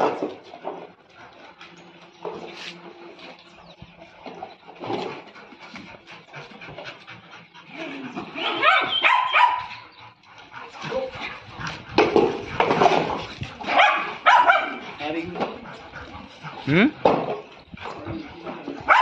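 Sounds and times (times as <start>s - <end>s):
dogs barking and yelping: 0.0s - 19.0s.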